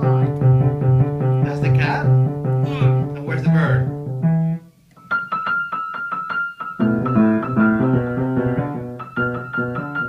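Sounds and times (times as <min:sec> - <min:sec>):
piano notes: 0:00.0 - 0:10.0.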